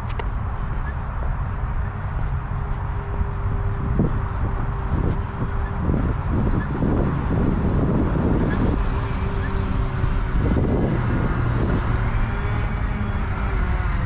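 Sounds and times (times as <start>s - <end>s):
low hum: 0.0s - 14.0s
low outdoor rumble: 0.0s - 14.0s.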